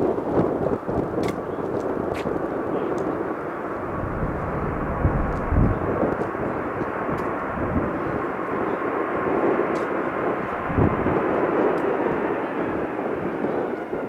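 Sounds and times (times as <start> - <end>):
wind gusting on microphone: 0.0 - 14.0
jet engine noise: 0.1 - 14.0.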